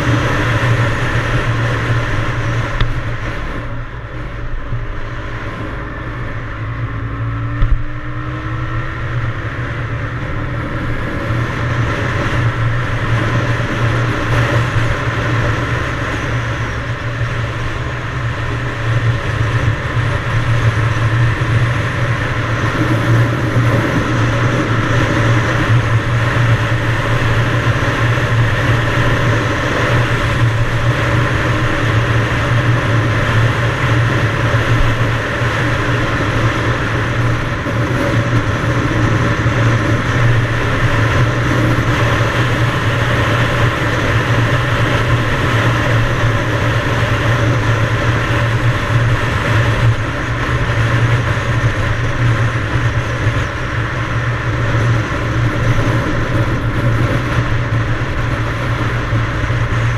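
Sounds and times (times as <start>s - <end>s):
two-stroke dirt bike engine: 0.0s - 59.9s.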